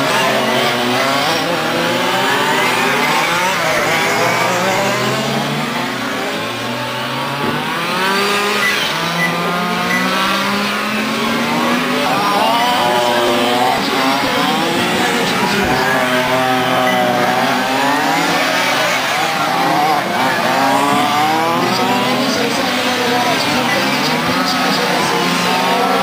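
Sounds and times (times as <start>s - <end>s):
small race car engines revving: 0.0s - 26.0s.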